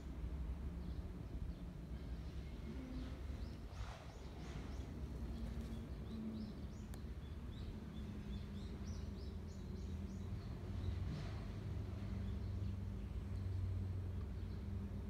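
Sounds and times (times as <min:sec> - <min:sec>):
small birds chirping: 0:00.7 - 0:15.0.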